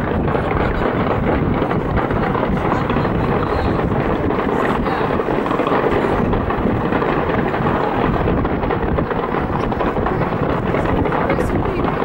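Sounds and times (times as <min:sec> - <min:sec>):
fireworks bursts and crackles: 0:00.0 - 0:12.0.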